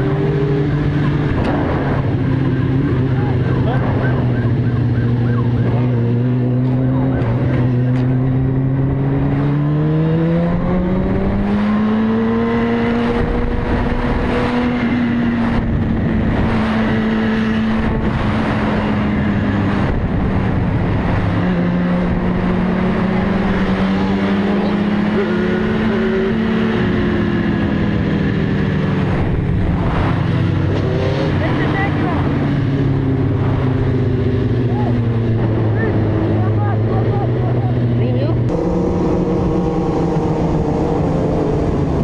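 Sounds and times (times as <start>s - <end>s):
wind rush: 0.0s - 6.6s, 7.3s - 24.5s, 25.7s - 42.0s
motorcycle engine running: 0.0s - 42.0s.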